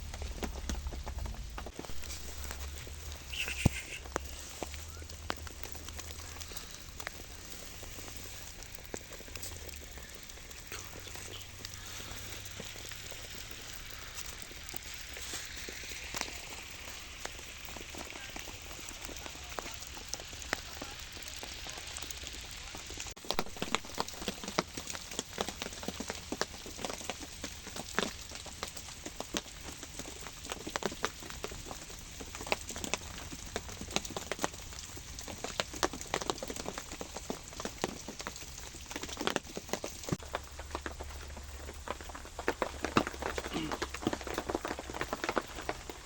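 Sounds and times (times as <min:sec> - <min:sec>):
rain pattering on a surface: 0:00.0 - 0:46.0
sharp raindrop ticks: 0:00.0 - 0:46.0.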